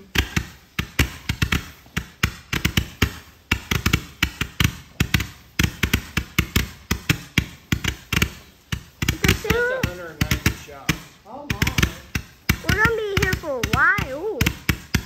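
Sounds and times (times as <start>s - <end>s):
firework launches thumping: 0.0s - 15.0s.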